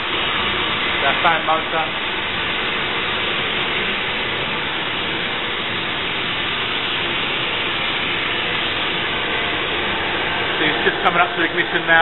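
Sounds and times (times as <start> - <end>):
burner fan rushing air: 0.0 - 12.0.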